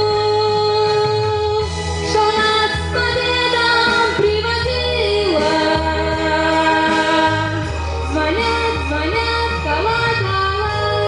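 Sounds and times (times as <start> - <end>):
instrumental accompaniment with bass: 0.0 - 11.0
woman singing into microphone: 0.0 - 11.0.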